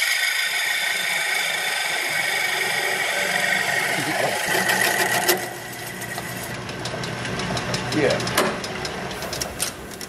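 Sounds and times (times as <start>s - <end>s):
lathe tool scraping disc: 0.0s - 10.0s.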